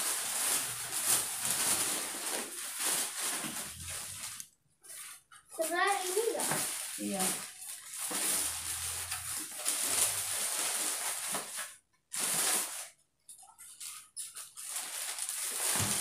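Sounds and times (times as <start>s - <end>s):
plastic bags rustling: 0.0s - 16.0s.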